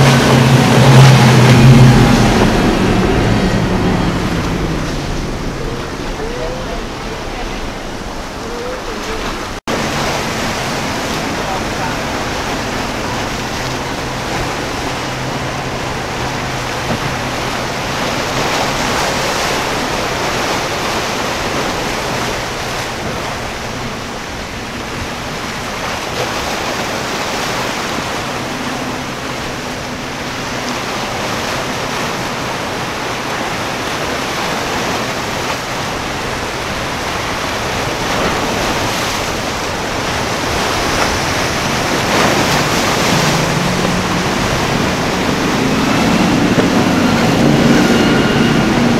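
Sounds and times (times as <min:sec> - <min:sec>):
faint boat engine drone: 0:00.0 - 0:48.9
surf and water rushing: 0:00.0 - 0:48.9
wind buffeting microphone: 0:00.0 - 0:48.9.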